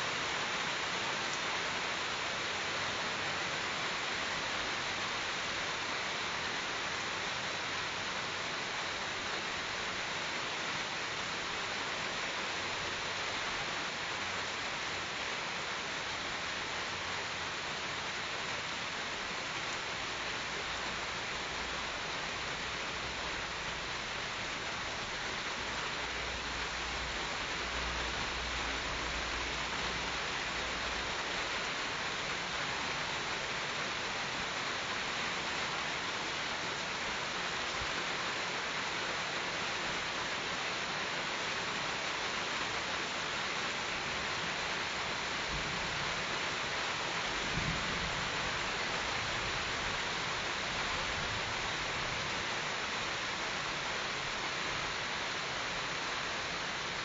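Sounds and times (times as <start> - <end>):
light rain on leaves: 0.0 - 57.0.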